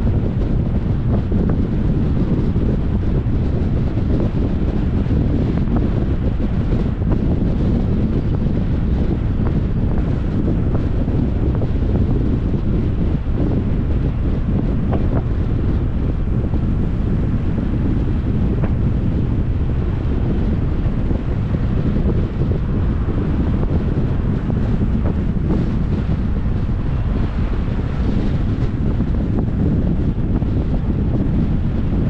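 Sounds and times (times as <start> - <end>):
road noise: 0.0 - 32.0
wind rushing over microphone: 0.0 - 32.0.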